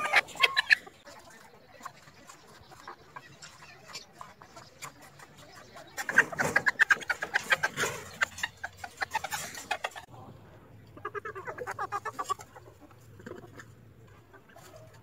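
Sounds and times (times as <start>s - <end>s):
chickens pecking plastic bowl: 0.0s - 10.1s, 10.9s - 15.0s
chickens clucking: 0.0s - 15.0s.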